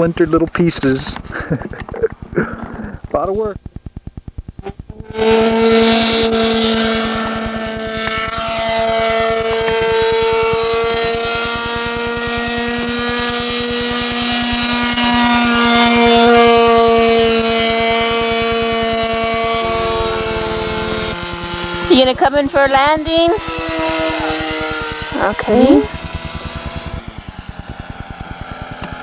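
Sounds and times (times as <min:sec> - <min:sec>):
model plane engine buzzing: 0:04.5 - 0:29.0.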